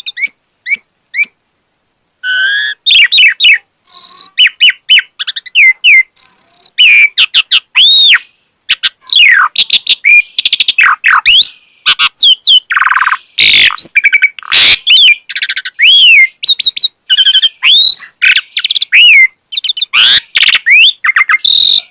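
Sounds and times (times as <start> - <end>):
starling singing: 0.0 - 1.4, 2.2 - 21.9.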